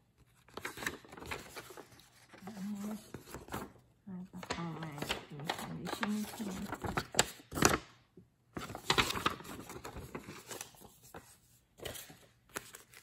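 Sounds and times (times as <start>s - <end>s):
paper receipt rustling: 0.2s - 7.9s, 8.6s - 13.0s.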